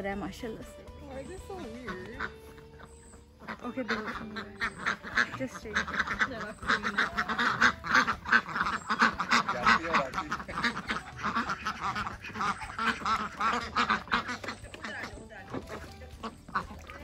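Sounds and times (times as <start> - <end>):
waterfowl calling: 0.0 - 17.0.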